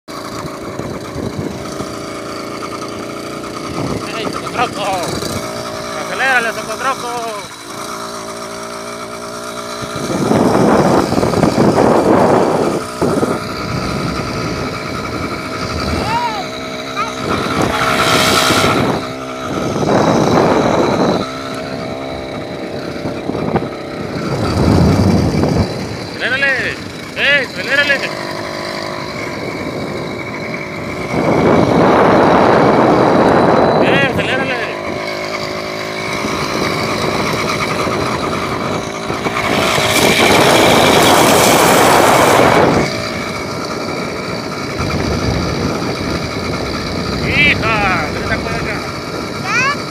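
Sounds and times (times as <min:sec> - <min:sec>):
small motor running: 0:00.1 - 0:49.9
wind rushing over microphone: 0:00.4 - 0:06.2, 0:09.7 - 0:49.9.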